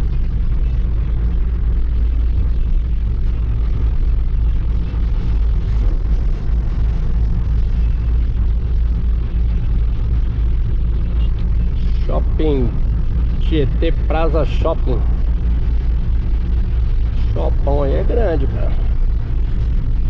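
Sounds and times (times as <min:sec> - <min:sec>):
truck engine rumble: 0:00.0 - 0:20.0.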